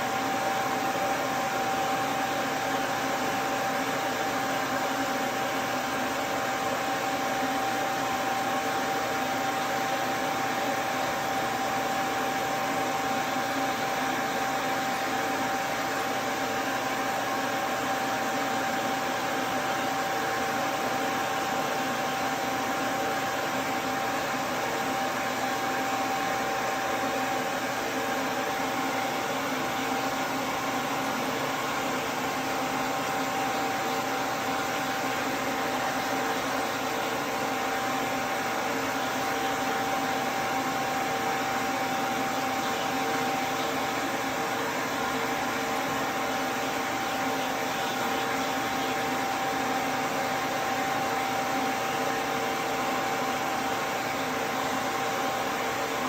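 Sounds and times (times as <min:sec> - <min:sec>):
pet dryer fan whirring: 0:00.0 - 0:56.0.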